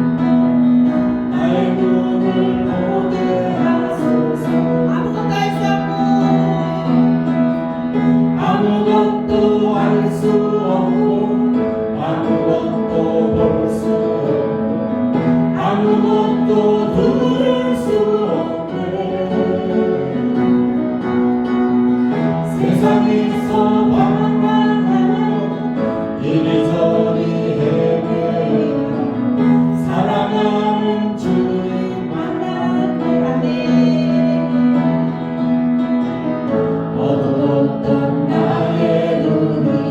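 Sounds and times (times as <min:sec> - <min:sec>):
band playing slow praise song: 0:00.0 - 0:39.9
voices singing along: 0:01.2 - 0:07.2, 0:08.4 - 0:20.8, 0:22.4 - 0:34.8, 0:36.9 - 0:39.9.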